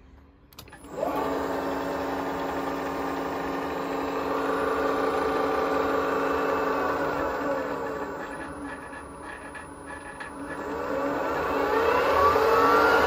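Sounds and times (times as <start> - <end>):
milling machine motor hum and whine: 0.8 - 13.0.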